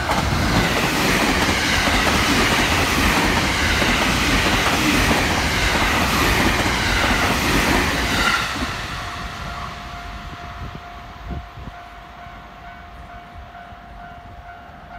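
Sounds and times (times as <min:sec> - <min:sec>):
train passing with clattering wheels: 0:00.0 - 0:14.9.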